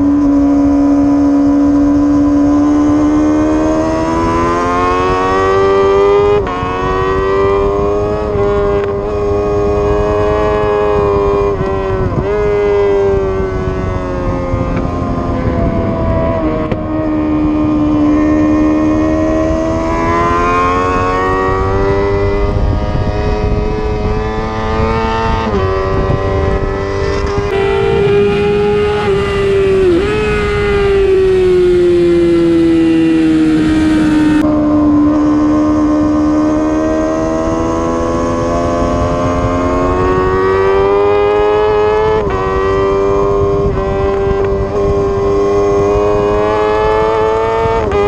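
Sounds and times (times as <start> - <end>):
motorcycle engine revving: 0.0 - 48.0
wind rushing: 0.0 - 48.0.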